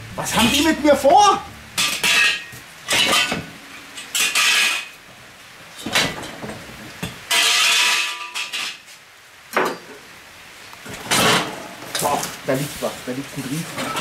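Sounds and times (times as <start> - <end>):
grill parts clanking and scraping: 0.2 - 9.0, 10.8 - 14.0.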